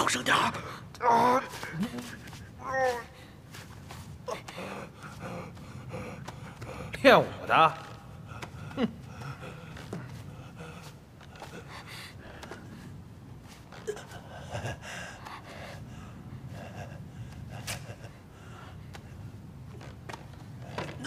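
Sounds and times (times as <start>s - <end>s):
steady low rumble: 1.6s - 20.7s.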